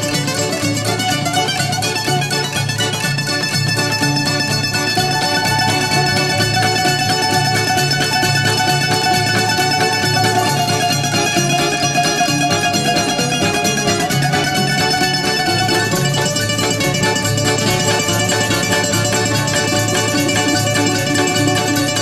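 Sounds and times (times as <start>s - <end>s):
bass and rhythm accompaniment: 0.0s - 22.0s
bouzouki plucked melody: 0.0s - 22.0s.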